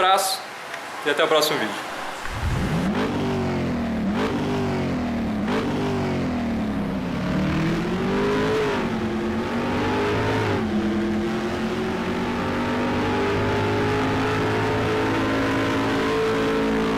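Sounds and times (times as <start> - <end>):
car engine accelerating: 2.0 - 16.9.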